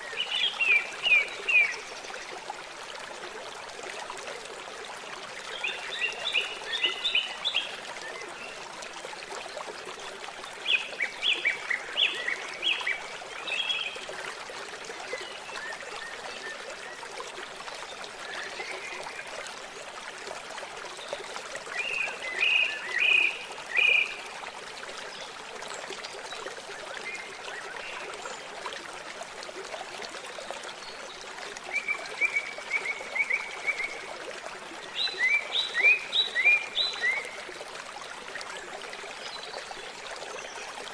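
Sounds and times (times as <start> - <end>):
trickling water: 0.0 - 40.9.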